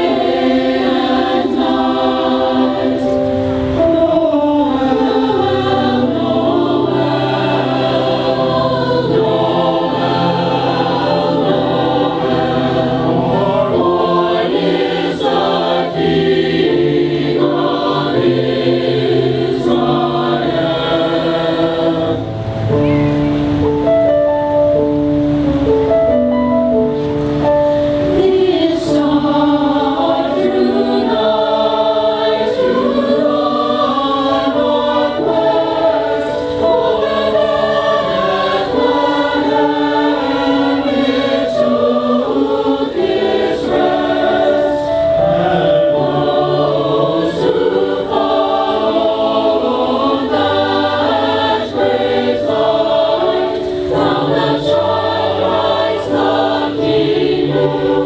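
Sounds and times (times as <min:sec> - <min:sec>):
choir singing held chords: 0:00.0 - 0:58.0.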